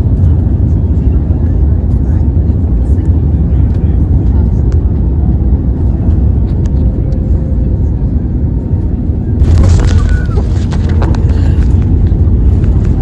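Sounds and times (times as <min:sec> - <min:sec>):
aircraft rolling low rumble: 0:00.0 - 0:13.0.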